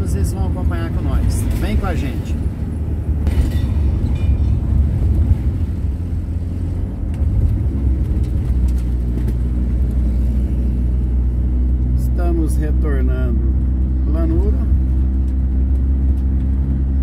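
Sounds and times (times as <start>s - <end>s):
van engine and road rumble: 0.0s - 17.0s.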